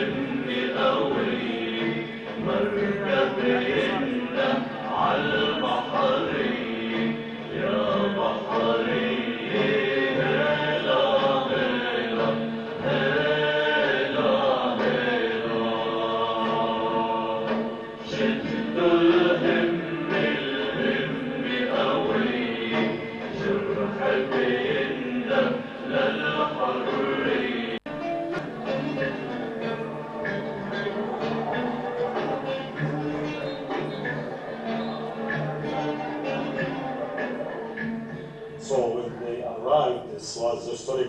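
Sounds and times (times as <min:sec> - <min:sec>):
group of voices singing: 0:00.0 - 0:41.0.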